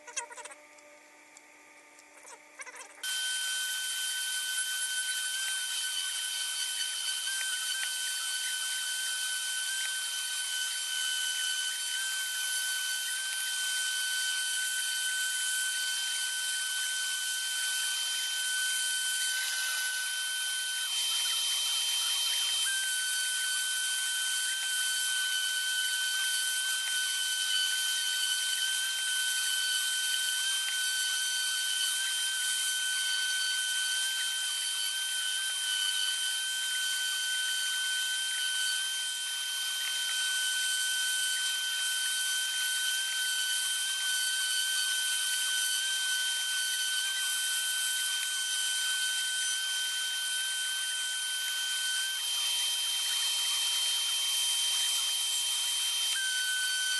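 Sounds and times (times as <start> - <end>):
small motorized tool whining: 0.0 - 56.9.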